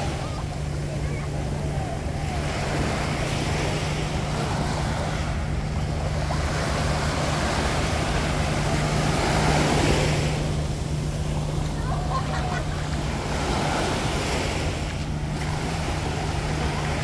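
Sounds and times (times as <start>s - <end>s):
low engine hum: 0.0s - 17.0s
surf washing onto beach: 0.0s - 17.0s.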